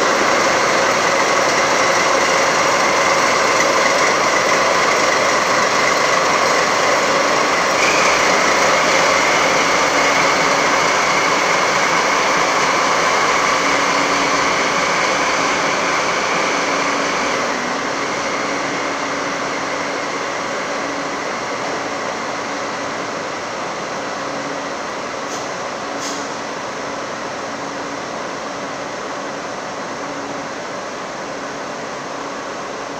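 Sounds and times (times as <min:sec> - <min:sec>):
diesel train passing: 0:00.0 - 0:32.9.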